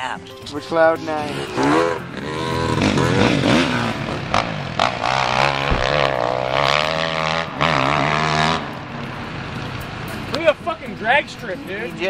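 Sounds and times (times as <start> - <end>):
dirt bike engines revving: 0.6 - 12.0.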